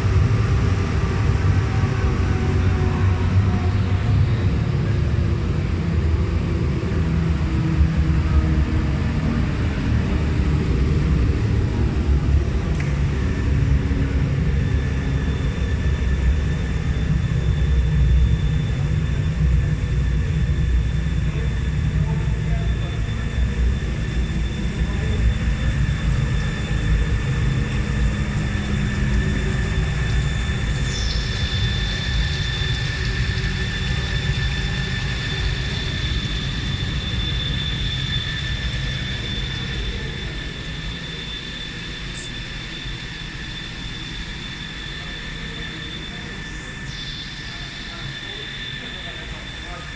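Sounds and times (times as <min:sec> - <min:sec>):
high-pitched whine: 0:00.0 - 0:49.9.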